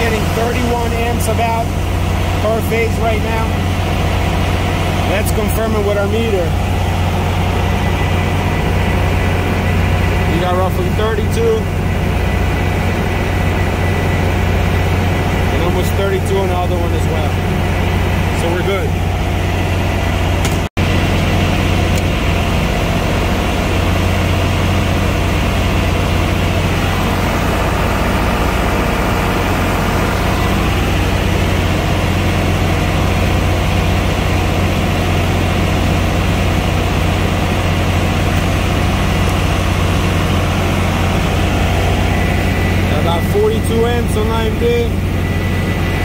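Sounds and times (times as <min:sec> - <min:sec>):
cooling fans rushing: 0:00.0 - 0:46.0
generator engine hum: 0:00.0 - 0:46.0.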